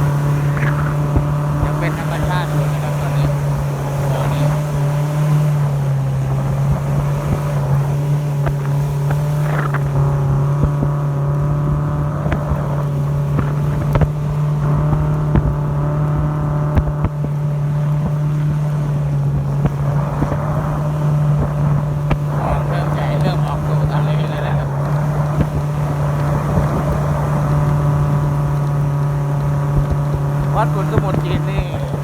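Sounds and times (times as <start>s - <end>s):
speedboat engine running: 0.0s - 32.0s.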